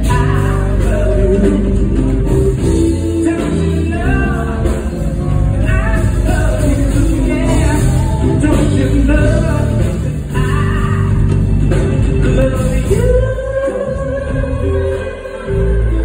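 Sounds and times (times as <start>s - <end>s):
backing singers: 0.0s - 16.0s
guitar: 0.0s - 16.0s
male singer: 0.0s - 16.0s.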